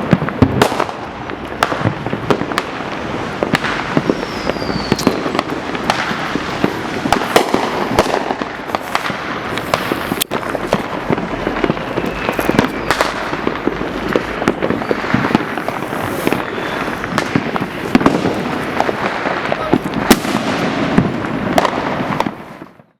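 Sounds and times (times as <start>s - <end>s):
fireworks bangs and crackles: 0.0s - 22.9s
firework whistles: 2.9s - 22.9s.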